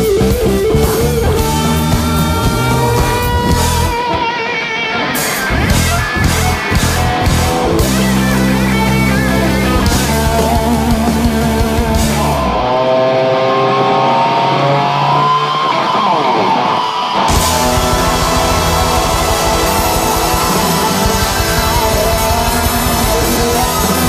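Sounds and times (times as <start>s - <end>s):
electric guitar pitch bends: 0.0s - 24.0s
live rock band: 0.0s - 24.0s.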